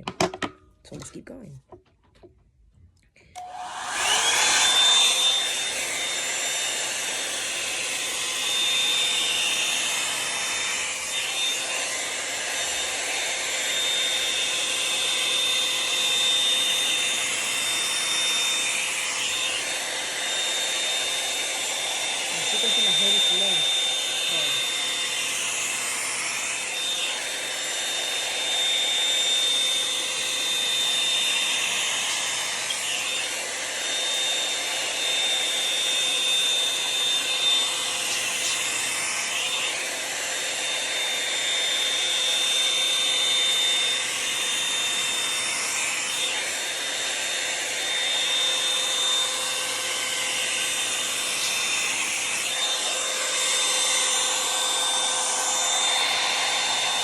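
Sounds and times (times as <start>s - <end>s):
hot-air brush fan whining: 3.4s - 57.0s.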